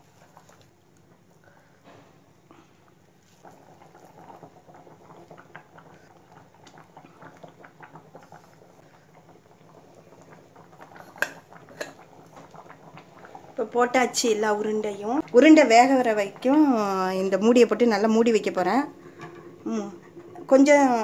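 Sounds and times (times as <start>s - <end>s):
pot boiling and bubbling: 0.0s - 21.0s.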